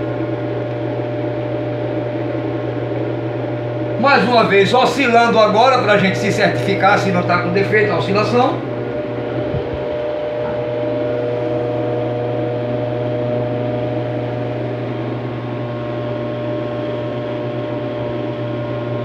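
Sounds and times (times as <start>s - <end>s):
electric fan motor hum and whine: 0.0s - 19.0s.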